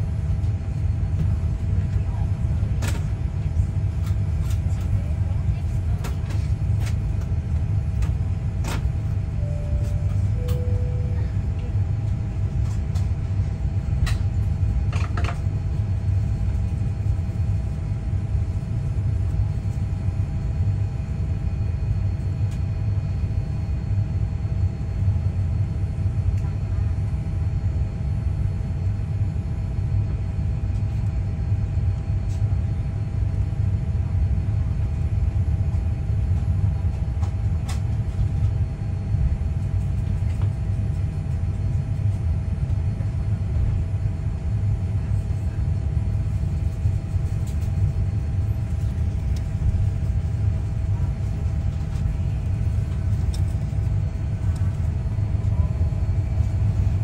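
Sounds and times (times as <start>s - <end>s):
faint steady whine: 0.0s - 57.0s
low aircraft cabin rumble: 0.0s - 57.0s.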